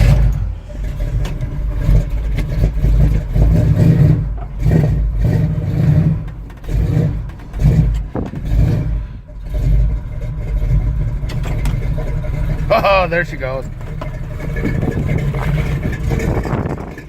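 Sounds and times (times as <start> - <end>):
pickup engine running rough: 0.0 - 17.0.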